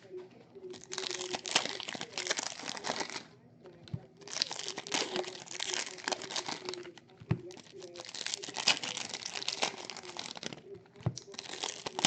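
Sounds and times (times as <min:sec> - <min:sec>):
wrappers crinkling and tearing: 0:00.7 - 0:12.0.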